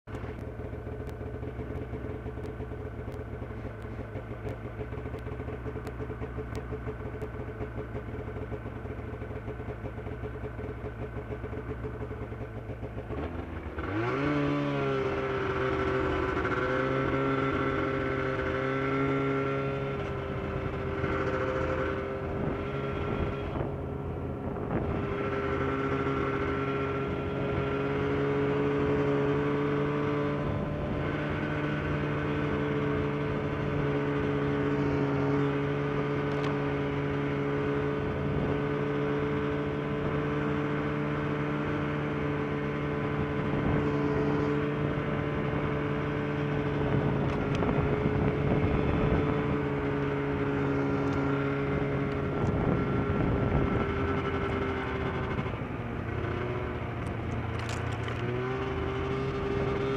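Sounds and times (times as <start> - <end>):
snowmobile engine: 0.0 - 59.9.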